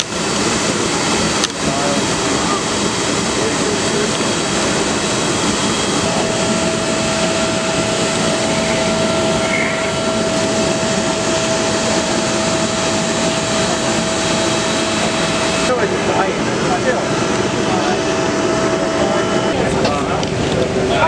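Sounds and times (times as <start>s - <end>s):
aircraft machinery rushing noise: 0.0s - 21.0s
thin steady whine: 0.0s - 21.0s.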